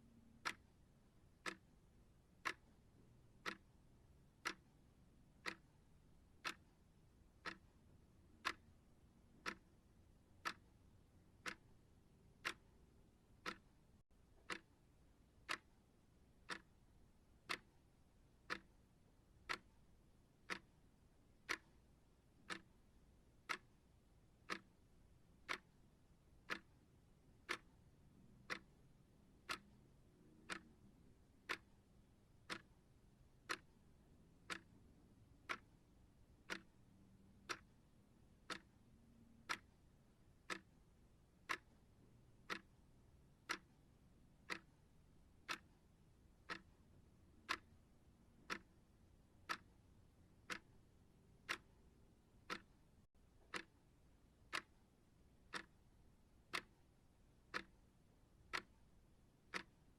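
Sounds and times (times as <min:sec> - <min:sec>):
timer ticking: 0:00.1 - 0:59.9.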